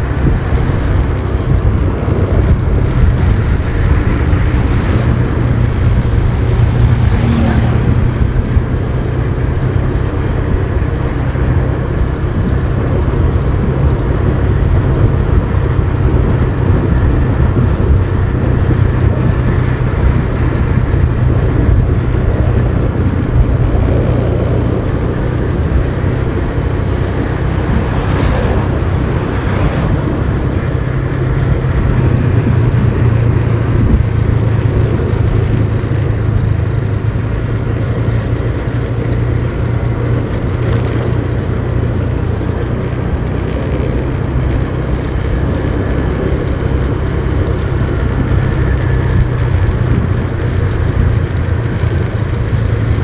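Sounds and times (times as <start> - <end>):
motorbike engine running: 0.0 - 53.0
road and air noise: 0.0 - 53.0.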